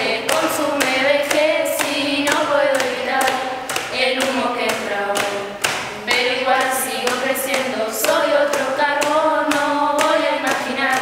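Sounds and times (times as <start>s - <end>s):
steady clicking beat: 0.0s - 11.0s.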